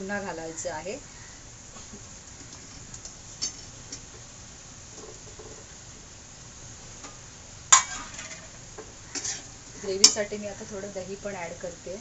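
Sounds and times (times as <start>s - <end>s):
low steady background: 0.0s - 12.0s.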